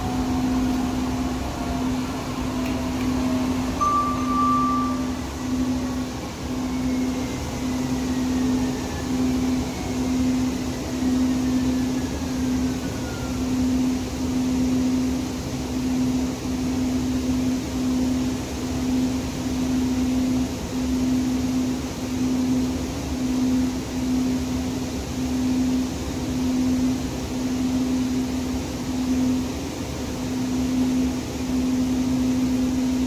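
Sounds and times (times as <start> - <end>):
faint falling whine: 0.0 - 33.0
train low hum: 0.0 - 33.0.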